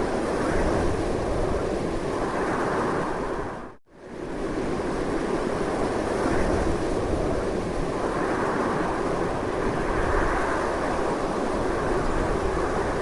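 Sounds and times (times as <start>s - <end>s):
strong wind: 0.0s - 13.0s.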